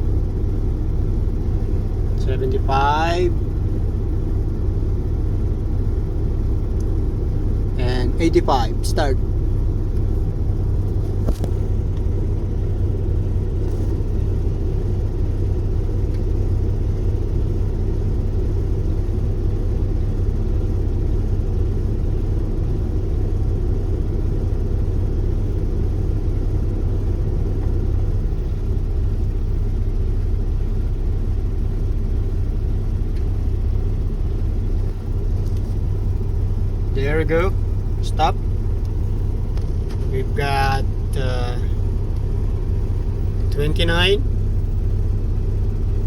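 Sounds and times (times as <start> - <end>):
truck engine rumbling: 0.0 - 46.0.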